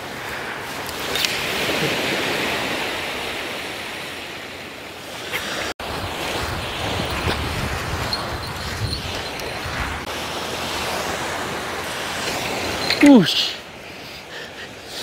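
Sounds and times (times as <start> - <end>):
wind rumbling on microphone: 0.0 - 13.0
surf breaking on beach: 0.0 - 13.8.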